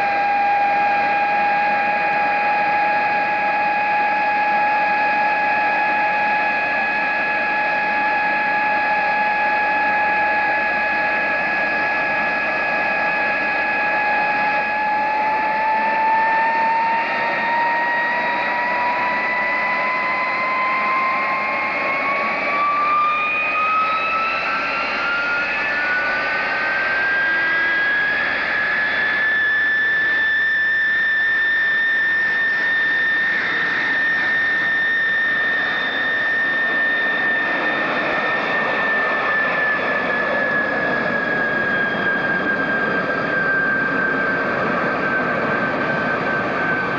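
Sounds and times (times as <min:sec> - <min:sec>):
jet engine whine rising: 0:00.0 - 0:46.9
jet exhaust rush: 0:04.1 - 0:46.9.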